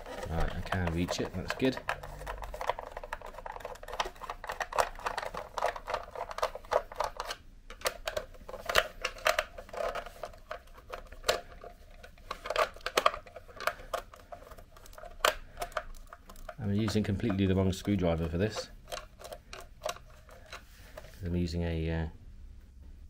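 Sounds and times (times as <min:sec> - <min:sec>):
screwdriver clicking on plastic screws: 0:00.0 - 0:20.6.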